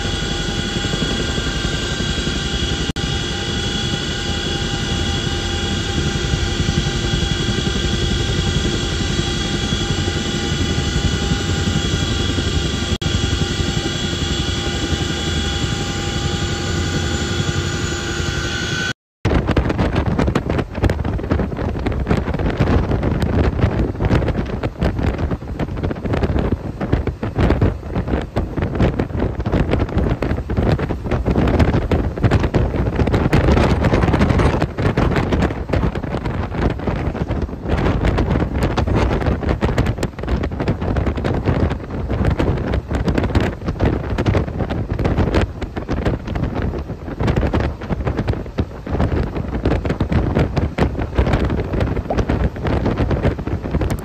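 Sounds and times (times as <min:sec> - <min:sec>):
helicopter turbine whine: 0:00.0 - 0:19.0, 0:27.6 - 0:54.0
wind buffeting microphone: 0:00.0 - 0:54.0.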